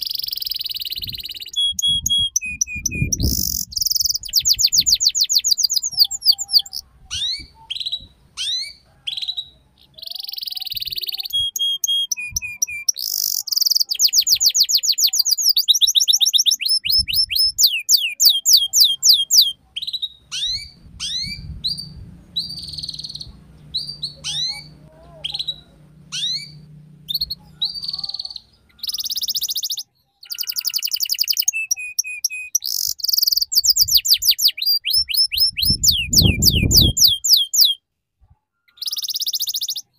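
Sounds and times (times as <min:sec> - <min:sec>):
canary singing trills: 0:00.0 - 0:37.8, 0:38.7 - 0:39.9.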